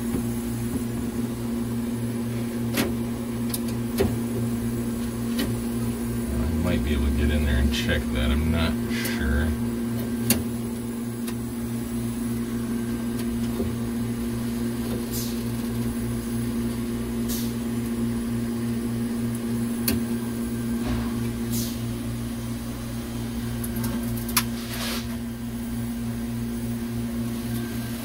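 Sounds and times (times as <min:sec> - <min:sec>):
compressor electrical hum: 0:00.0 - 0:28.0.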